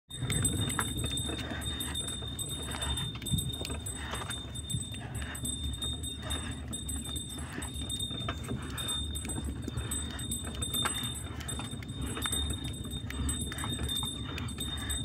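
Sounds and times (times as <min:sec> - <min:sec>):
ox hooves on dirt: 0:00.1 - 0:15.0
steady low rumble: 0:00.1 - 0:15.0.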